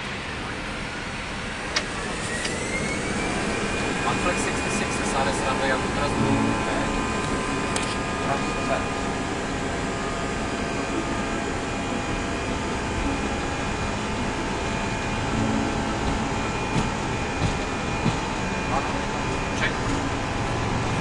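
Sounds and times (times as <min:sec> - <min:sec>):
faint whining tones: 0:00.0 - 0:21.0
jet engines and rushing air: 0:00.0 - 0:21.0.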